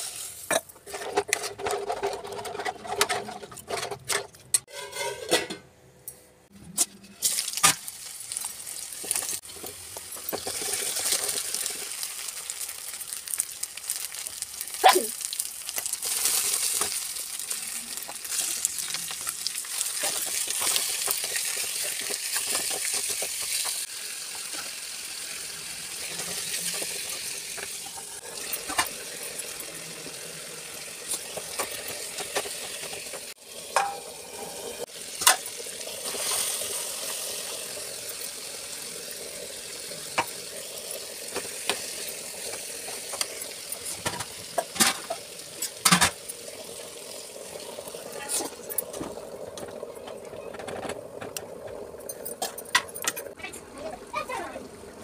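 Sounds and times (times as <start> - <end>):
food sizzling in hot oil: 0.0 - 0.7, 7.1 - 55.0.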